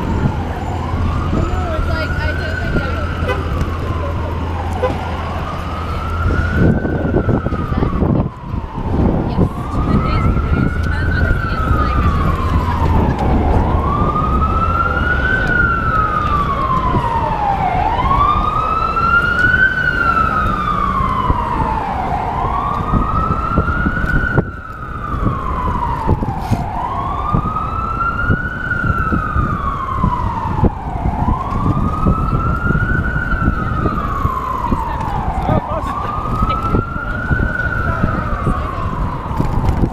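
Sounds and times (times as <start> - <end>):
siren wailing: 0.0 - 39.9
street traffic rumble: 0.0 - 39.9.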